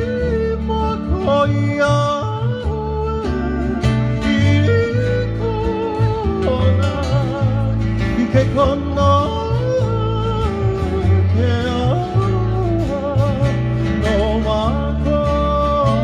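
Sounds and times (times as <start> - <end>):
acoustic guitars strummed and plucked: 0.0 - 16.0
low bass notes: 0.0 - 16.0
person singing with vibrato: 0.0 - 16.0.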